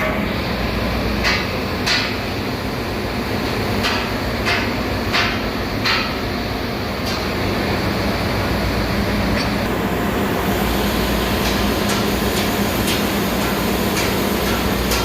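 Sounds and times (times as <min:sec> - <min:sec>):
engine room machinery drone: 0:00.0 - 0:15.0.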